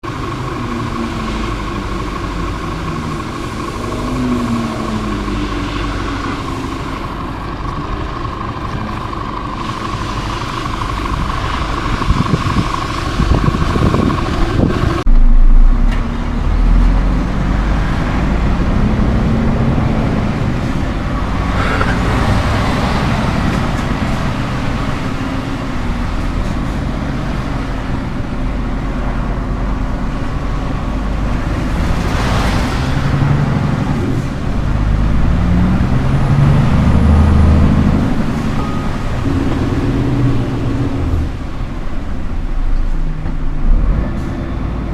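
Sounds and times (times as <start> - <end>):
truck diesel engine revving: 0.0 - 44.9.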